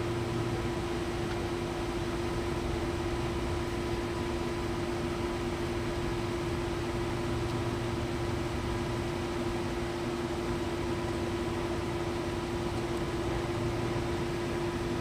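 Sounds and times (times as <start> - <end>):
mechanical hum with pitched tone: 0.0 - 15.0.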